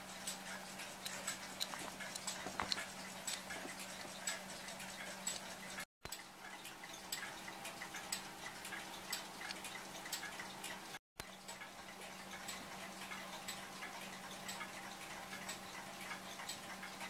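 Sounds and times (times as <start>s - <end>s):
faint steady hum: 0.0s - 17.0s
mechanical clock ticking: 0.0s - 17.0s.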